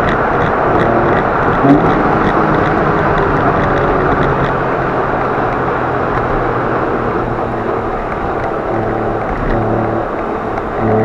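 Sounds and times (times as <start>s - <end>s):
car engine humming: 0.0s - 11.0s
road noise: 0.0s - 11.0s.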